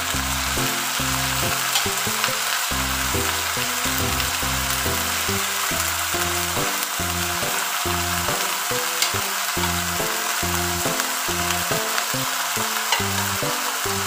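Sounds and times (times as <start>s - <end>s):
background music: 0.0s - 14.0s
meat sizzling in a wok: 0.0s - 14.0s.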